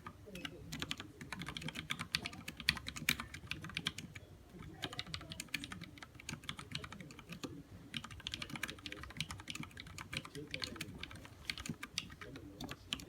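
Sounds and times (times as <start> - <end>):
fast typing on mechanical keyboard: 0.0 - 13.0.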